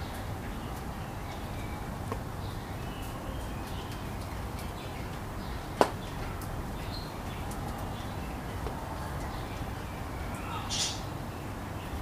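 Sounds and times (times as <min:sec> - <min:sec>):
distant city noise: 0:00.0 - 0:12.0
rain: 0:00.0 - 0:12.0
small birds chirping: 0:00.0 - 0:12.0.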